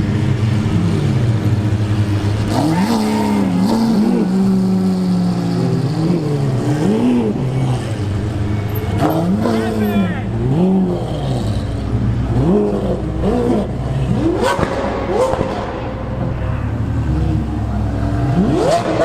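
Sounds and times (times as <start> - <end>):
sports car engine revving: 0.0 - 19.0.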